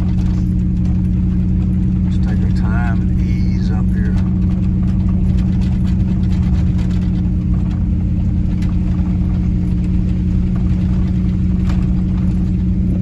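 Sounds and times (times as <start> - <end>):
pickup truck engine low drone: 0.0 - 13.0.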